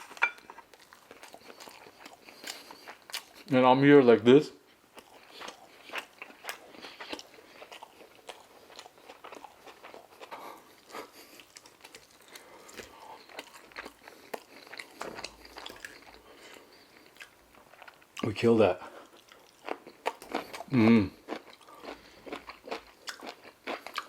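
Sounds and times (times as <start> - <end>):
person chewing food: 0.0 - 3.5, 4.6 - 18.2, 18.8 - 24.0.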